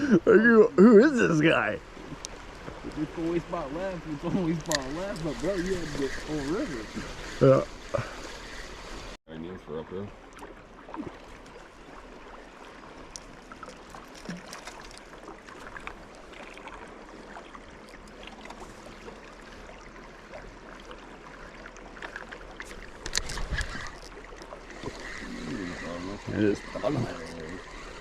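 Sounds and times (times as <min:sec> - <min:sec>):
water lapping around boat: 0:00.0 - 0:28.0.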